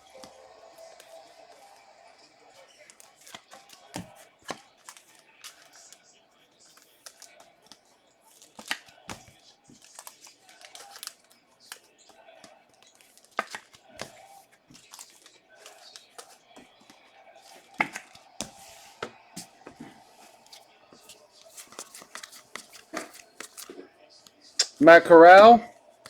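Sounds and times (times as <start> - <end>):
cards clicking and snapping: 2.8 - 23.8.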